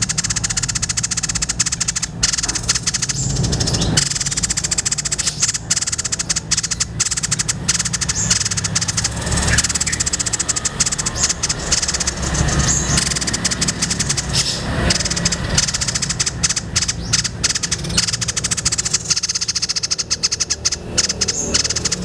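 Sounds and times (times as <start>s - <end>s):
bird rattling chattering song: 0.0s - 22.0s
steady low hum: 0.0s - 22.0s.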